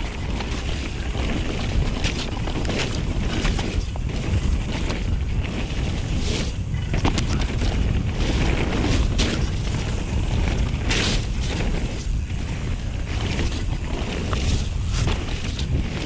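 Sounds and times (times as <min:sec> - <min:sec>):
bike clicks and rattles: 0:00.0 - 0:16.0
bike tyre rumble: 0:00.0 - 0:16.0
wind buffeting microphone: 0:00.0 - 0:16.0.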